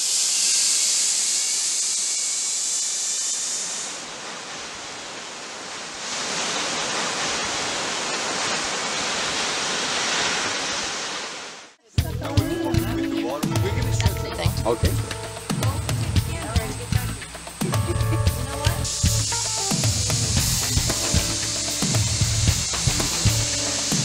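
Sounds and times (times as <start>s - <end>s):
waterfall rushing: 3.6s - 11.8s, 12.4s - 24.0s.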